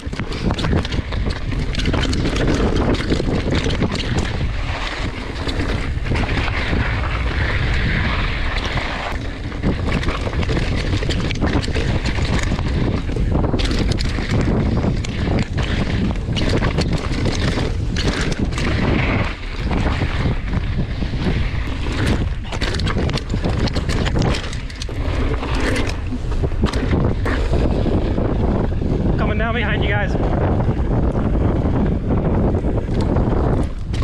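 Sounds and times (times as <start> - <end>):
bike knocks and rattles: 0.0 - 29.6, 30.2 - 34.0
tyres rumbling over rock: 0.0 - 34.0
wind buffeting microphone: 0.0 - 34.0.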